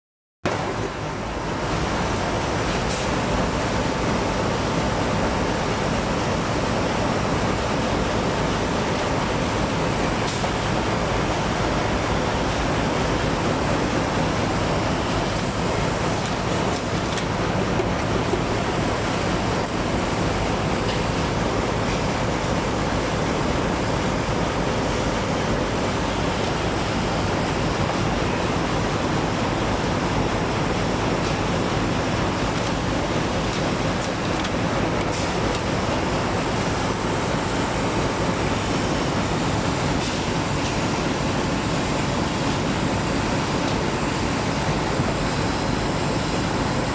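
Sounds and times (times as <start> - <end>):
machine running: 0.5 - 46.9.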